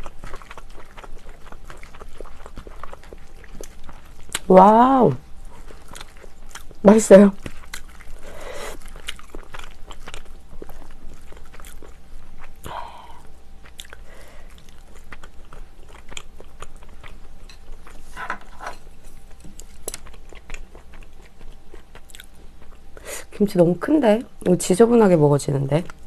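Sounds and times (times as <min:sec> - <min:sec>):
chewing and mouth sounds: 0:00.0 - 0:04.6, 0:05.4 - 0:18.1, 0:18.9 - 0:23.4.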